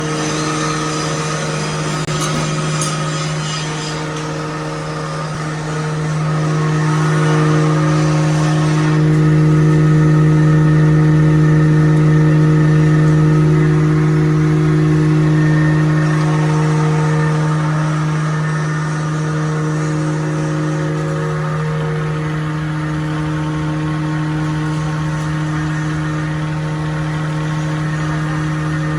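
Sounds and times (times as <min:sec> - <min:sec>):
wood grinding machine humming: 0:00.0 - 0:28.9.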